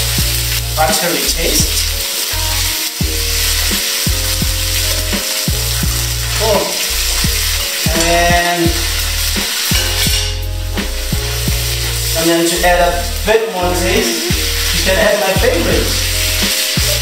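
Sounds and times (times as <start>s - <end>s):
background music with low beat: 0.0s - 17.0s
steak sizzling in a pan: 0.0s - 17.0s.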